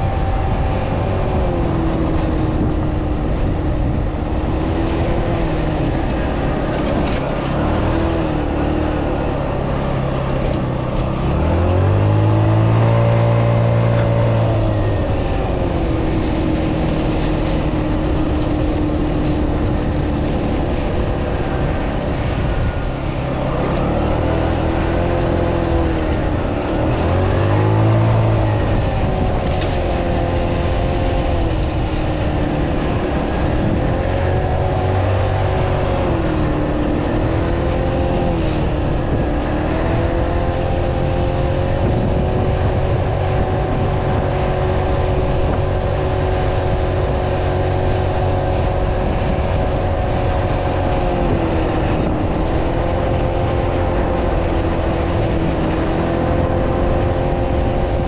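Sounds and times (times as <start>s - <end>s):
scooter engine revving: 0.0s - 58.0s
steady rushing noise: 0.0s - 58.0s.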